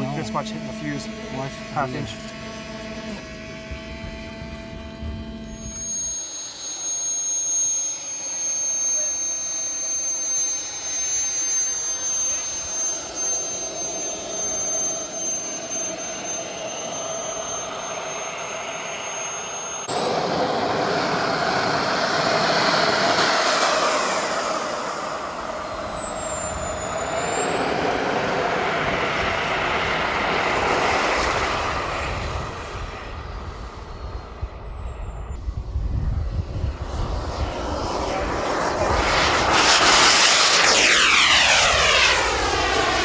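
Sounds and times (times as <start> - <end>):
model jet turbine whine: 0.0 - 43.0.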